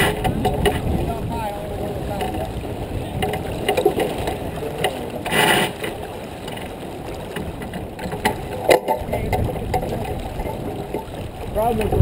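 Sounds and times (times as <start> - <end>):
clicks and knocks from boat gear: 0.0 - 1.1, 2.1 - 12.0
wind and water rushing: 0.0 - 12.0.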